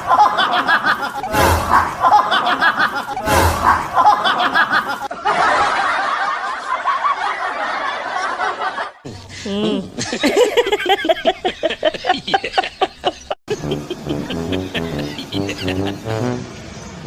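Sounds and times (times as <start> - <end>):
people laughing: 0.0 - 16.4.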